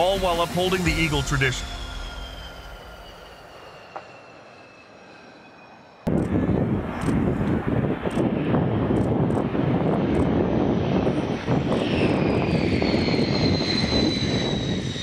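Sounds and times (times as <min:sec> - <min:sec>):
high jet whine: 0:00.0 - 0:15.0
jet engines roaring: 0:00.0 - 0:15.0.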